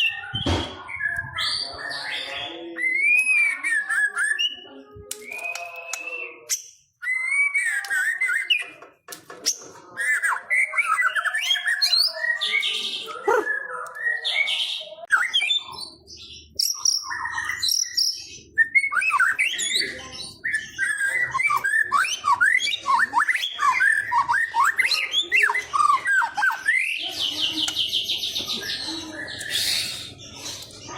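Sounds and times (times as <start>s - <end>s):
songbird singing whistles and trills: 0.0s - 8.8s, 9.4s - 30.8s.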